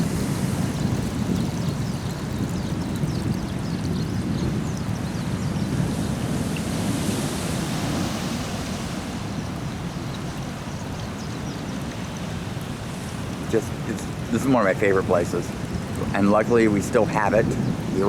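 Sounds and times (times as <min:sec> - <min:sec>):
surf washing over shore: 0:00.0 - 0:18.0
wind on microphone: 0:00.0 - 0:18.0.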